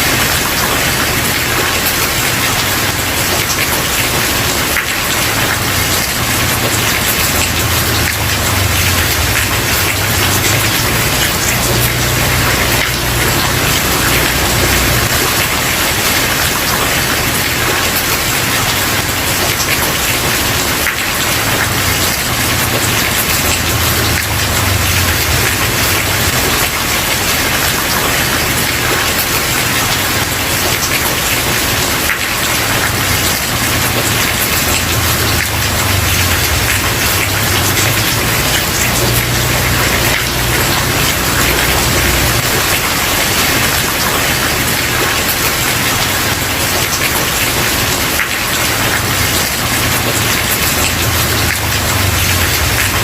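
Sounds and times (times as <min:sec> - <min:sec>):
rain on a wooden porch: 0:00.0 - 0:53.0.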